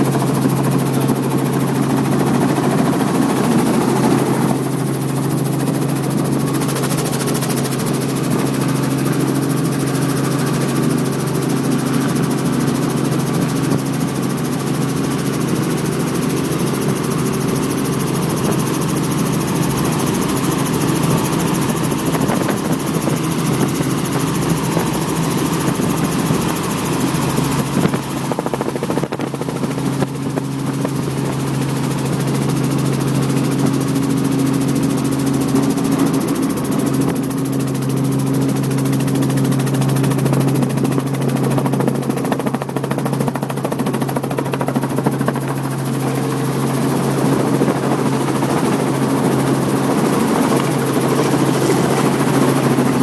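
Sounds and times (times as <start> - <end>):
light aircraft engine drone: 0.0 - 53.0.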